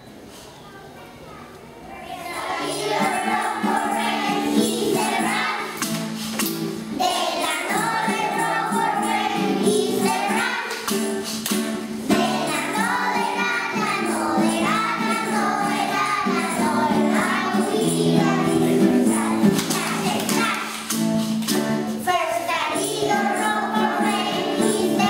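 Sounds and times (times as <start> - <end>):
children singing together: 1.9 - 25.0.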